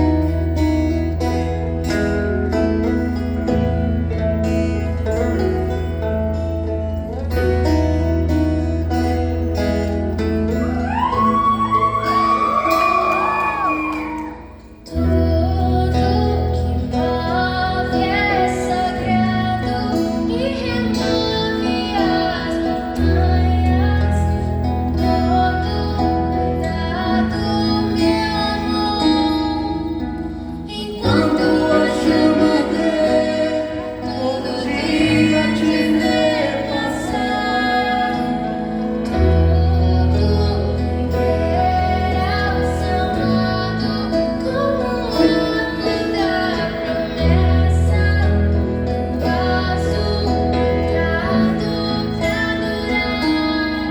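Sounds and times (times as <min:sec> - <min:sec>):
live band playing: 0:00.0 - 0:53.9
woman singing: 0:10.5 - 0:53.9.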